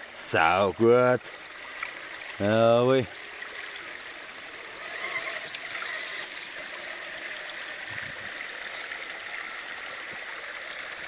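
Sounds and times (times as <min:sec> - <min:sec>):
small waterfall and stream running: 0:00.0 - 0:11.0.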